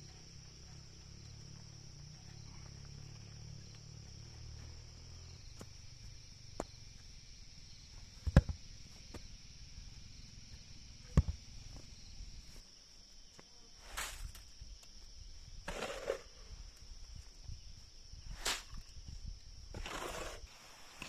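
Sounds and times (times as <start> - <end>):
insects singing: 0.0 - 20.6.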